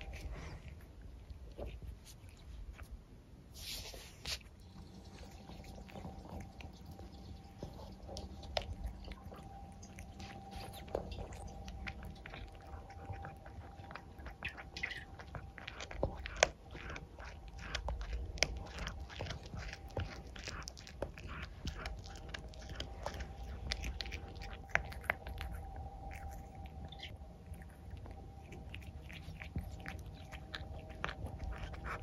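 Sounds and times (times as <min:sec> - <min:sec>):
cat chewing and crunching: 0:00.0 - 0:32.0.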